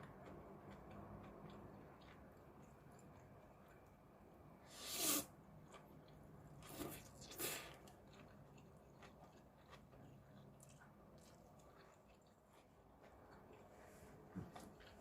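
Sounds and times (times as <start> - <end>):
faint chewing: 0.0 - 4.3, 5.5 - 15.0.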